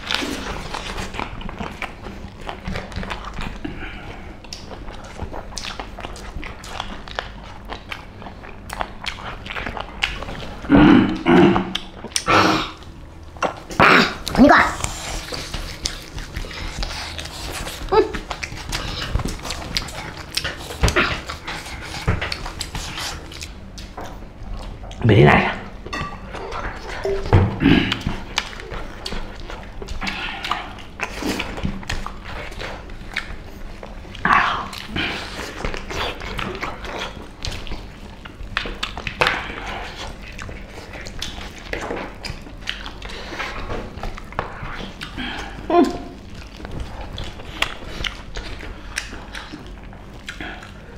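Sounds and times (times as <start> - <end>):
chewing and lip-smacking: 0.0 - 50.9.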